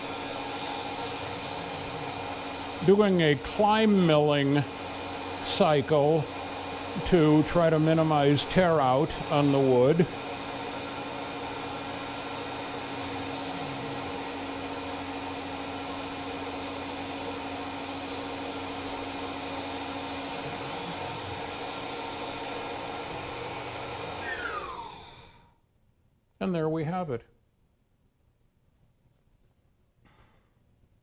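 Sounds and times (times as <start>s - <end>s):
milling machine cutting wood: 0.0s - 25.4s
spindle winding down: 0.0s - 25.4s.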